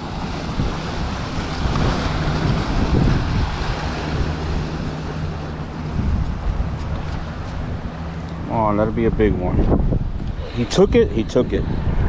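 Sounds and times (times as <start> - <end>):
motorboat engine running: 0.0 - 12.0
wind noise on microphone: 0.0 - 12.0.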